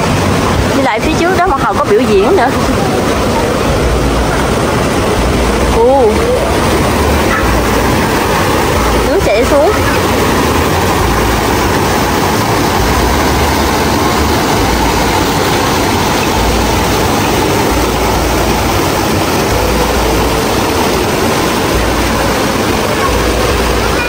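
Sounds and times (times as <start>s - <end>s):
stream rushing over stones: 0.0s - 24.0s.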